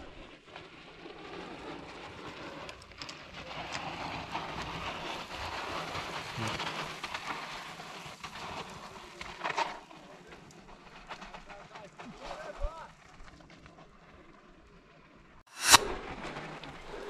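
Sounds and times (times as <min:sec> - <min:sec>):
bike tyres sliding on gravel: 0:00.0 - 0:17.0.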